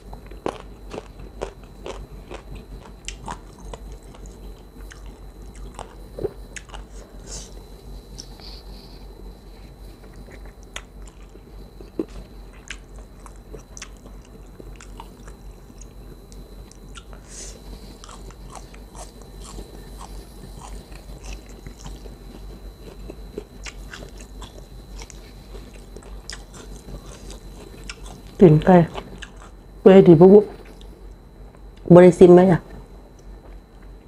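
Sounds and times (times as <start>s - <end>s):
person chewing food: 0.0s - 29.7s, 30.6s - 31.6s
low hum: 0.0s - 34.0s.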